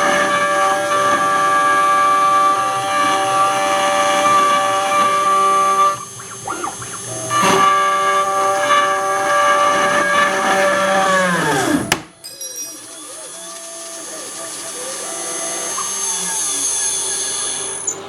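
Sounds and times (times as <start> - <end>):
machine spindle whining: 0.0 - 18.0.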